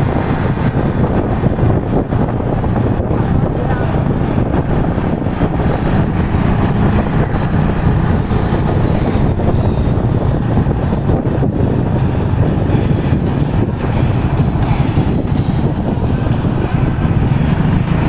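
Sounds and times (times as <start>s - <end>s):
motorcycle engine running: 0.0s - 18.0s
wind rushing over microphone: 0.0s - 18.0s.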